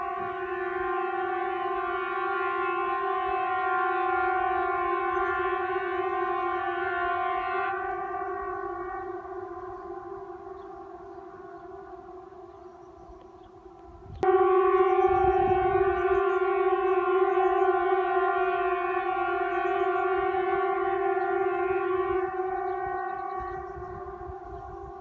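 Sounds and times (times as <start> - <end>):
steady droning tone: 0.0 - 25.0.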